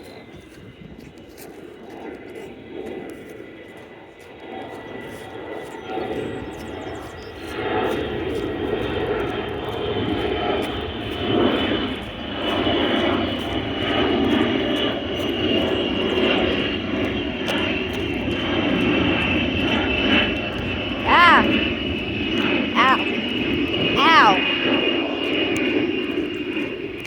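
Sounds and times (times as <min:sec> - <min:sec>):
airplane engines roaring: 0:00.0 - 0:27.0.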